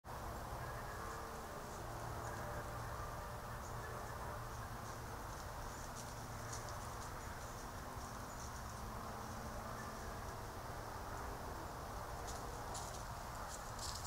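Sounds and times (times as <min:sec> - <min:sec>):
microphone hiss: 0:00.1 - 0:14.0.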